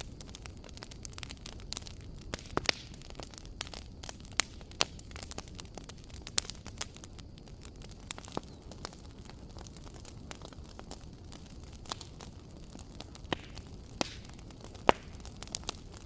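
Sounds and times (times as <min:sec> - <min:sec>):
low hiss of flames: 0:00.0 - 0:16.0
wood fire crackling and popping: 0:00.0 - 0:16.0.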